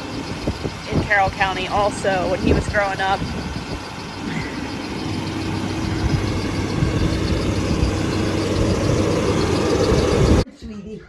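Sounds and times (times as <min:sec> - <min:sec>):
tractor diesel engine running: 0:00.0 - 0:10.4.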